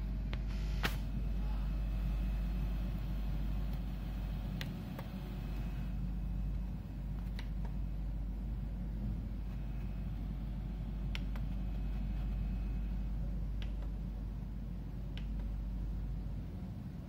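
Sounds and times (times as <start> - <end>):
projector cooling fan hum: 0.0 - 17.0.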